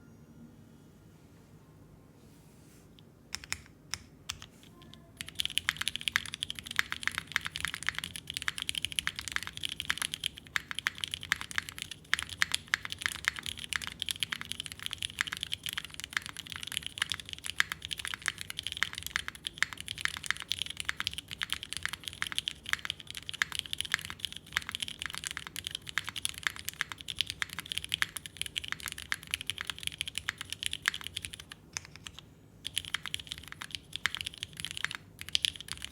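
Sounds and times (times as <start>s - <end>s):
mechanical keyboard typing: 3.4s - 35.9s.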